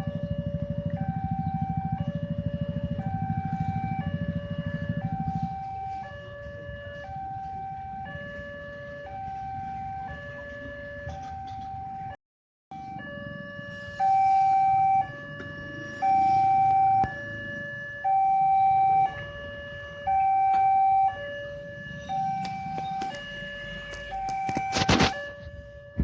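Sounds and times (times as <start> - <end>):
two-tone electronic warning siren: 0.0 - 26.0.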